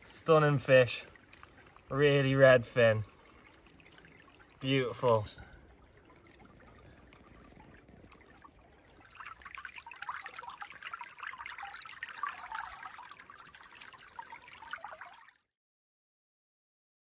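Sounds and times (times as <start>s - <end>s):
stream water trickling and splashing: 0.0s - 15.6s.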